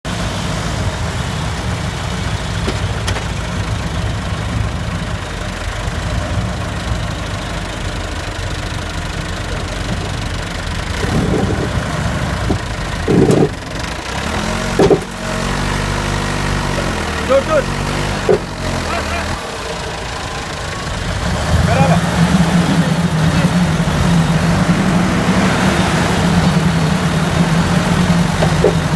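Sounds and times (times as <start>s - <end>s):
vehicle engine running at low revs: 0.1s - 28.9s.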